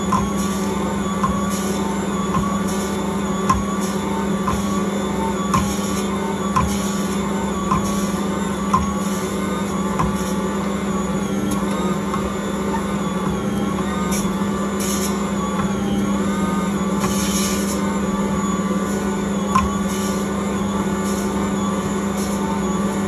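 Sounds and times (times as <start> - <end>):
stand mixer running: 0.0 - 23.0.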